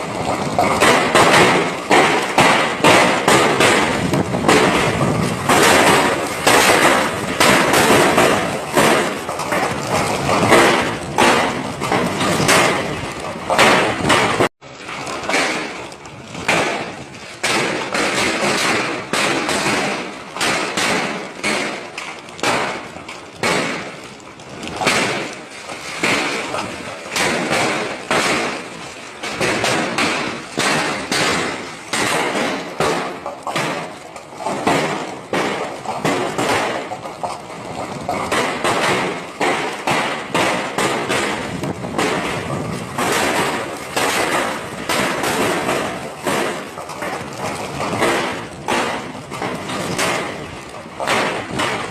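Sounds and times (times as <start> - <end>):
hailstones hitting hard surfaces: 0.0 - 51.9.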